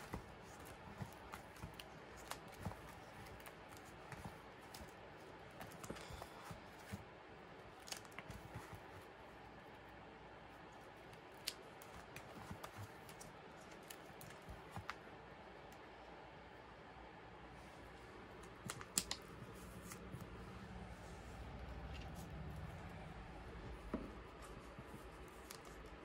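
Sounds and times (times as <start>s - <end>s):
plastic binder pages rustling: 0.0s - 9.4s, 10.7s - 15.1s, 18.3s - 26.0s.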